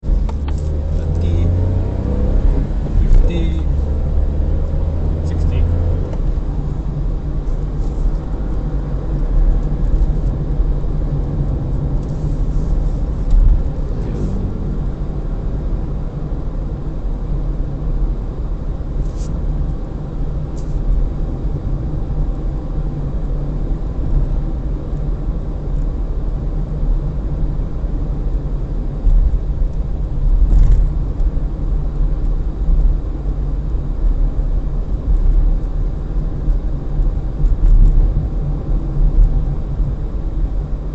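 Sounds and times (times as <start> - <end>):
air conditioning: 0.0 - 40.9
car engine: 0.0 - 40.9
tyre road noise: 0.0 - 40.9.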